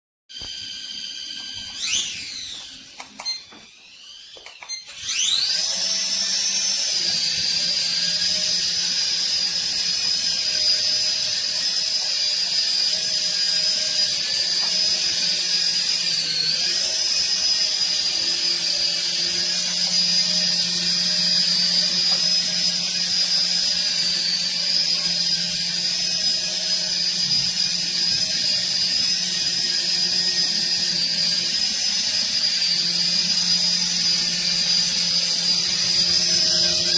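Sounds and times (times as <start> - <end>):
toy helicopter motor whine: 0.3 - 36.9.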